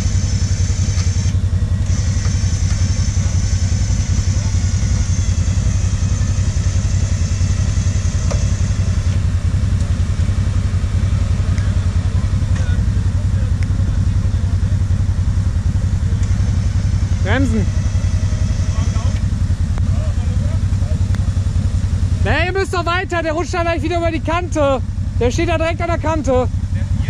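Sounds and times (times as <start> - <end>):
atv engine idling: 0.0 - 27.0.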